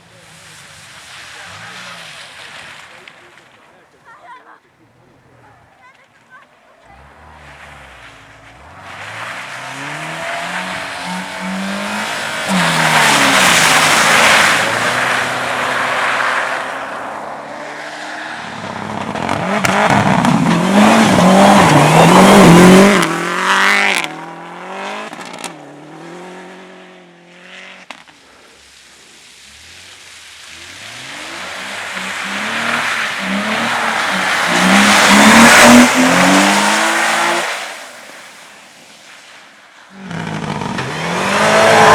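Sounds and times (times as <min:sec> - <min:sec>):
tyre noise: 0:00.0 - 0:26.2, 0:27.8 - 0:38.3, 0:39.9 - 0:41.9
race car engines revving: 0:00.0 - 0:38.8, 0:39.8 - 0:41.9.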